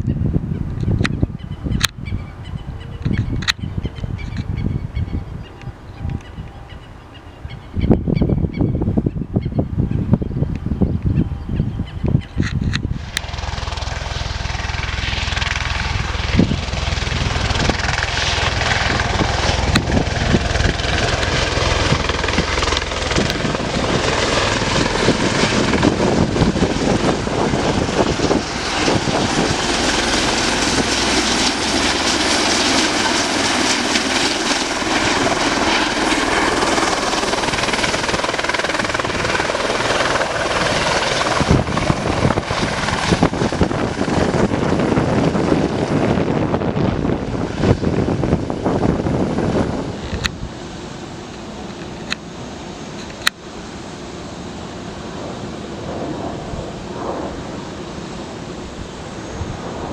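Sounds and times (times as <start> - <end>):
helicopter turbine and rotor noise: 0.0 - 59.9.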